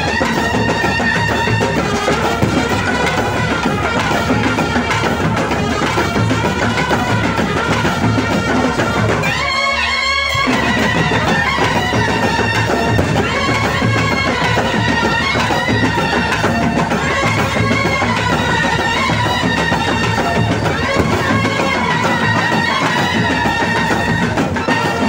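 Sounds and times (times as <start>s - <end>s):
steady drum beat: 0.0s - 9.5s, 10.3s - 25.0s
sliding melody: 0.0s - 25.0s.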